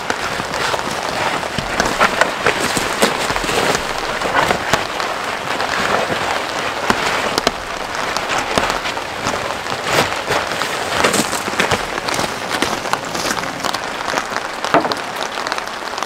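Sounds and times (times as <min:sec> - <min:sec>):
raindrops tapping on surfaces: 0:00.0 - 0:16.0
steady rain falling: 0:00.0 - 0:16.0.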